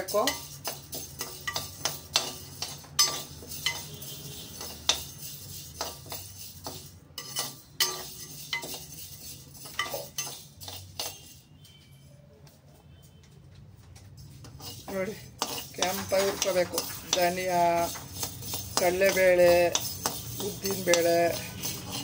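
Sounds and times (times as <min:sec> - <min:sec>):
metal spoon scraping a pan: 0:00.0 - 0:12.0, 0:14.2 - 0:22.0.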